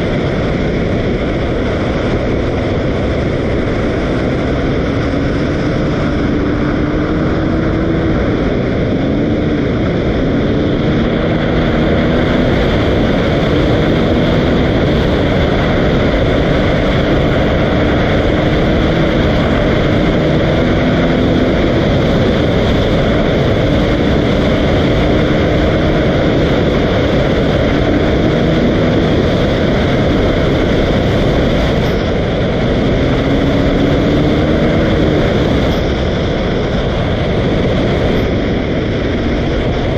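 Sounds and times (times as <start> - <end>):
loud rushing noise: 0.0 - 39.9
dirt bike engine revving: 1.3 - 38.4.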